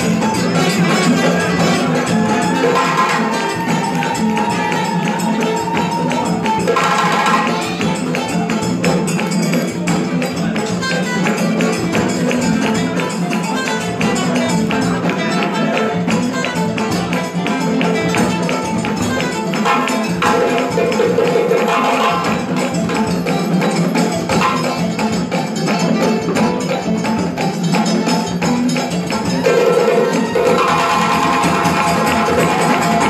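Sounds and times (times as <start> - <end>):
fast dance percussion music: 0.0 - 33.0.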